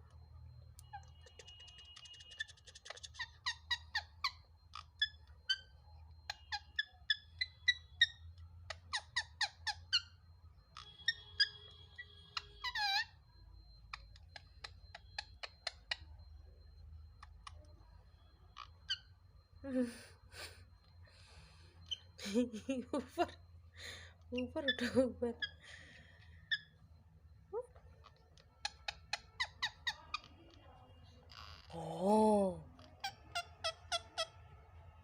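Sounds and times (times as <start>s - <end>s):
parrot squeaking and chirping: 0.1s - 19.5s, 21.8s - 22.4s, 24.3s - 26.8s, 27.6s - 30.6s, 31.3s - 34.9s.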